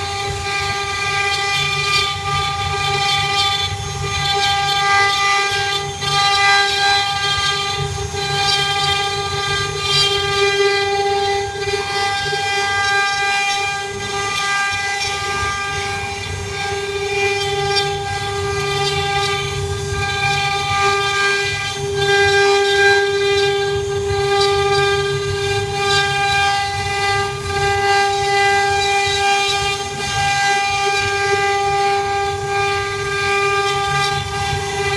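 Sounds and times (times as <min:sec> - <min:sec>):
cnc router spindle whine: 0:00.0 - 0:34.9
rough wood cutting noise: 0:00.0 - 0:34.9.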